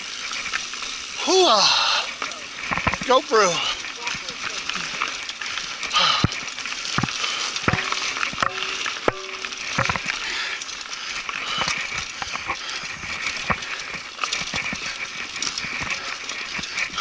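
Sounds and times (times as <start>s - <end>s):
bike rattling over dirt trail: 0.0s - 17.0s
wind and tyre hiss: 0.0s - 17.0s.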